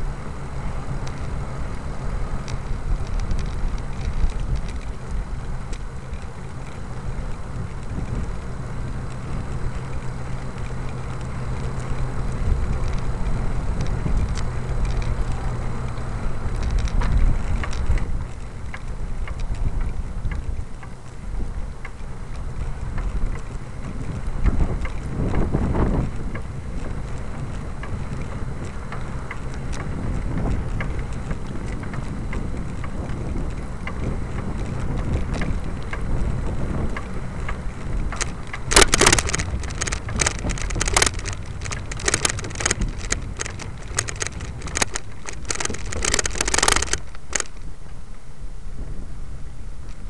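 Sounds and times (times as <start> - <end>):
wind buffeting microphone: 0.0 - 50.0
rapid sharp clicks and rattles: 2.2 - 47.7.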